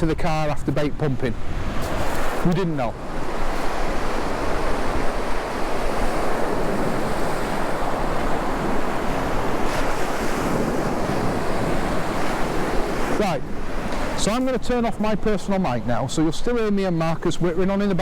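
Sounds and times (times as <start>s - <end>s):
wind buffeting microphone: 0.0s - 17.4s
surf breaking on beach: 0.0s - 18.0s.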